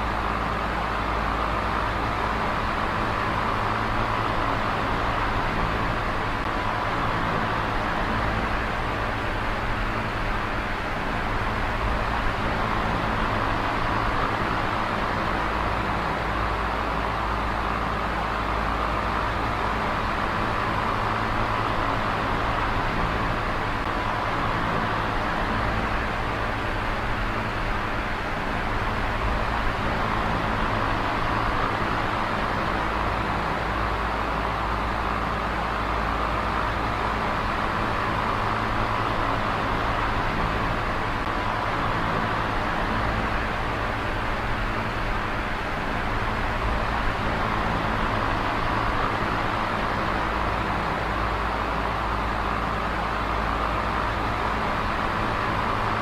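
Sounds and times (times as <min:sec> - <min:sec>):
fan motor hum: 0:00.0 - 0:56.0
oscillating fan air rush: 0:00.0 - 0:56.0.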